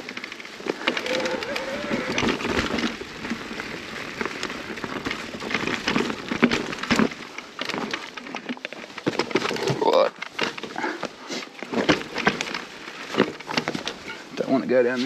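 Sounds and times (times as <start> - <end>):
bike clicks and knocks: 0.0 - 14.2
tyres crunching on gravel: 0.0 - 15.0.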